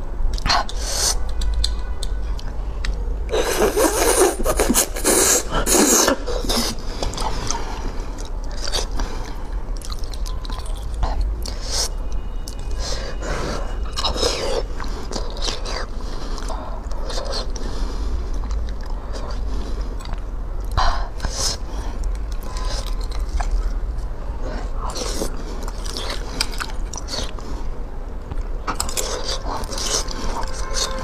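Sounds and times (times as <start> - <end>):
wet chewing: 0.3 - 13.0, 13.6 - 31.0.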